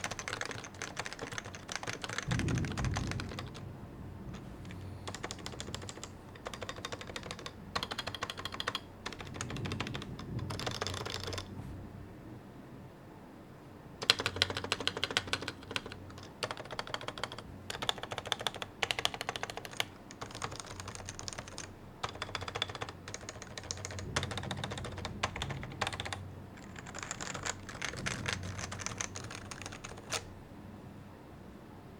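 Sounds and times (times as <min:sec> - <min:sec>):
keyboard typing: 0:00.0 - 0:03.6, 0:04.3 - 0:11.5, 0:14.0 - 0:30.3.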